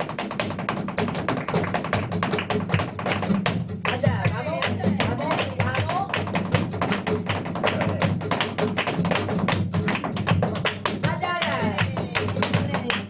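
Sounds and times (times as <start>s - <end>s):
flamenco guitar: 0.0s - 13.0s
heel and toe strikes on stage: 0.0s - 13.0s.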